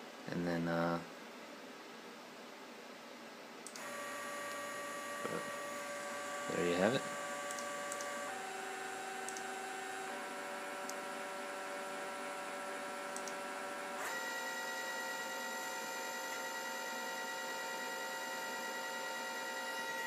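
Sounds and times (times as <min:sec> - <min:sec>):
stepper motor whine: 0:03.8 - 0:20.0.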